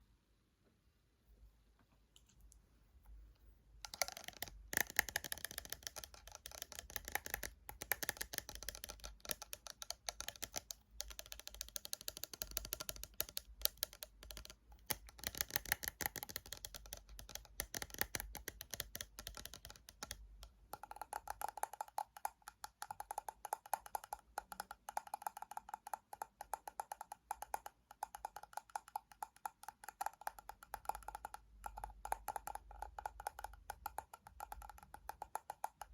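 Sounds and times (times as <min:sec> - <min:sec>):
fingernail tapping on plastic and glass: 0:03.8 - 0:35.9.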